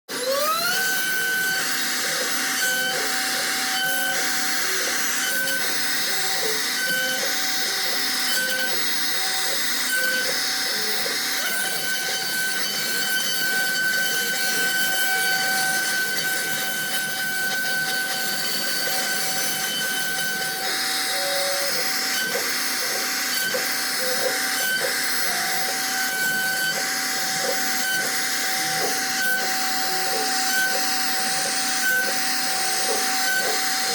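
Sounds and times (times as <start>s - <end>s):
router bit cutting wood: 0.1s - 33.9s
router spindle high tone: 0.1s - 33.9s.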